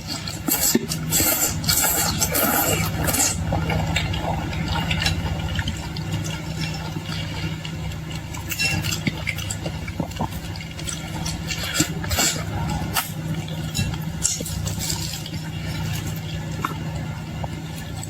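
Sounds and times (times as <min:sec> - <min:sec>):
chewing and shell crackles: 0:00.0 - 0:18.0
low hum: 0:00.0 - 0:18.0.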